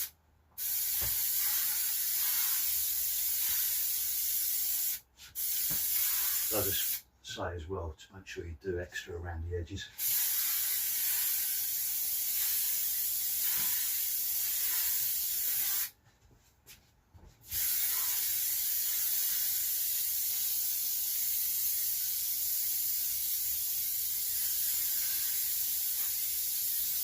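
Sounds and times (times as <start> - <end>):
aerosol spray hissing: 0.0 - 7.0, 10.0 - 15.9, 17.5 - 27.0.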